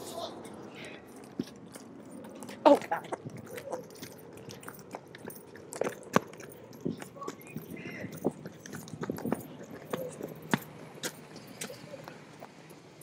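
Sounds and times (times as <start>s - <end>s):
footsteps: 0.0s - 12.8s.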